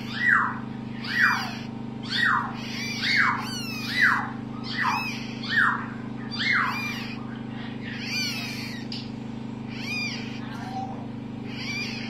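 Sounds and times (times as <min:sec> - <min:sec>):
parrot chick begging squeaks: 0:00.0 - 0:09.1, 0:09.7 - 0:12.0
steady low hum: 0:00.0 - 0:12.0.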